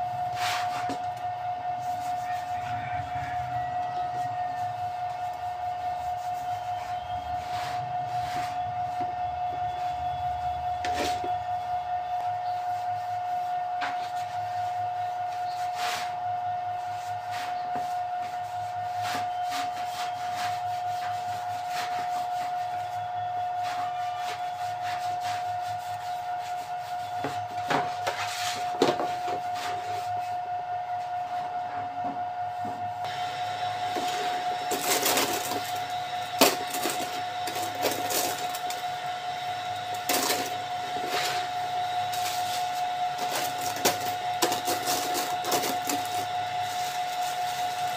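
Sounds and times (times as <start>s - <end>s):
steady high whine: 0.0s - 47.9s.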